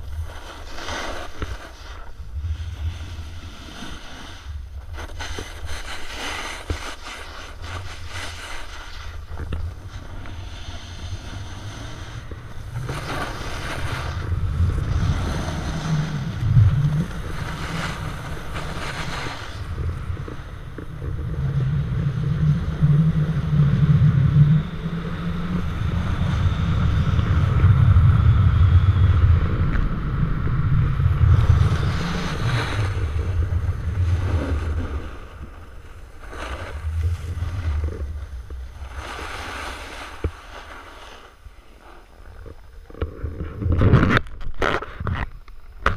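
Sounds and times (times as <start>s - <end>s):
wind buffeting microphone: 0.0s - 40.5s.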